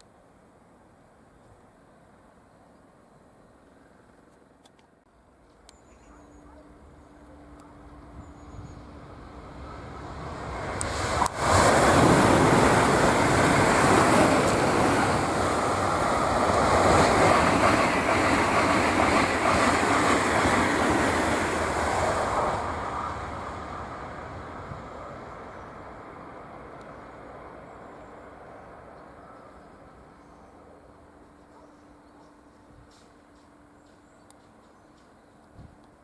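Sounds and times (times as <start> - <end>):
high-speed train passing: 5.2 - 36.0.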